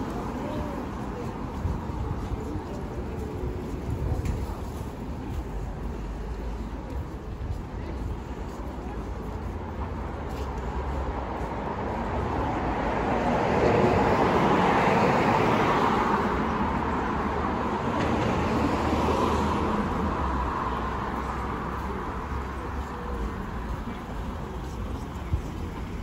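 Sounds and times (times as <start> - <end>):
cars passing on street: 0.0 - 26.0.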